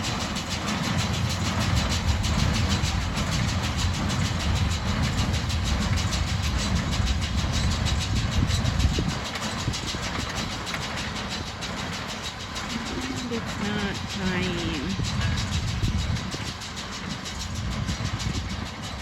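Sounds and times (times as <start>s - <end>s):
tractor engine rumble: 0.0s - 19.0s.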